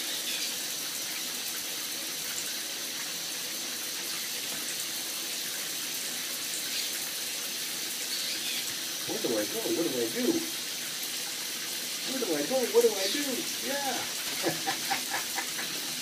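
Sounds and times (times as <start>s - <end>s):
water running into bathtub: 0.0s - 16.0s.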